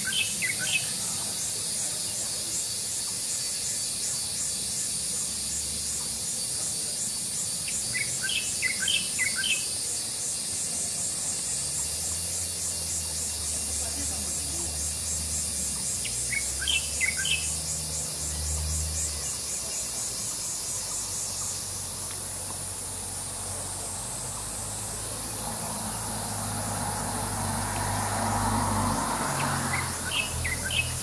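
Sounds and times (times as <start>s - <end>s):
insect chorus: 0.0s - 31.0s.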